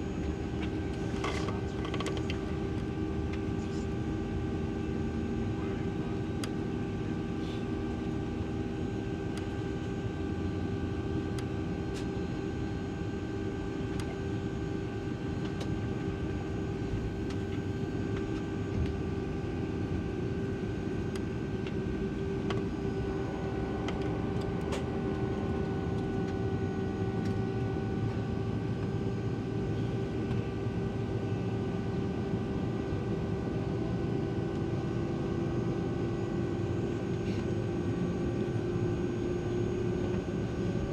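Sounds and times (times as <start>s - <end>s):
aircraft cabin engine rumble: 0.0s - 40.9s.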